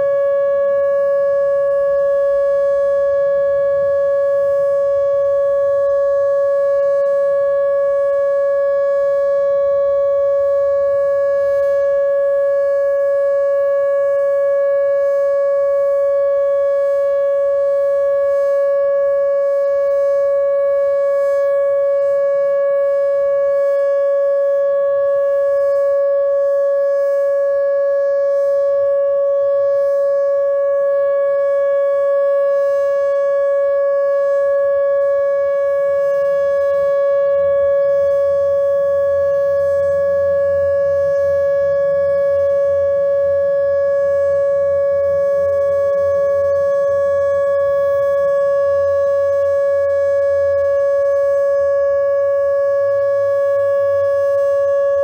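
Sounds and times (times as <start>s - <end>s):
electronic siren steady tone: 0.0s - 55.0s.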